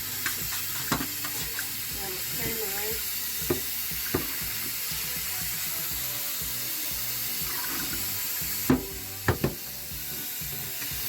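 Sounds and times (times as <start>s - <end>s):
tap water running over rice: 0.0s - 11.0s.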